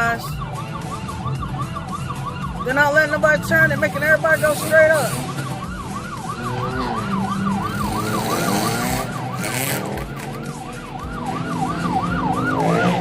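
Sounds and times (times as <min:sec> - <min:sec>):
police siren yelping: 0:00.0 - 0:13.0
traffic and engine noise: 0:00.0 - 0:13.0.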